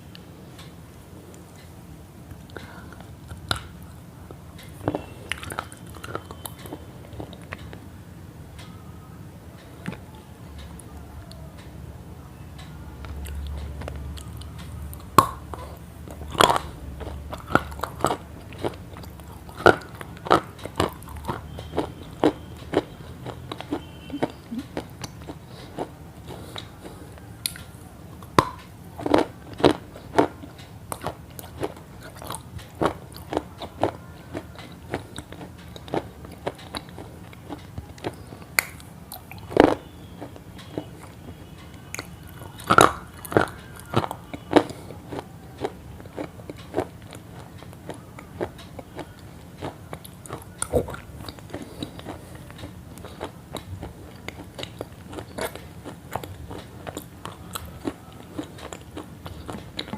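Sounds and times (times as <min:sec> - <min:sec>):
person chewing crunchy food: 0:02.3 - 0:07.8, 0:13.0 - 0:59.9.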